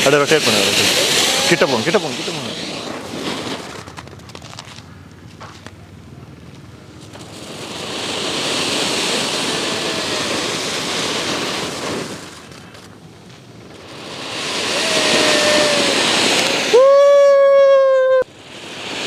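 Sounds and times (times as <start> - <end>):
firework fountain hissing: 0.0 - 5.1, 6.6 - 19.0.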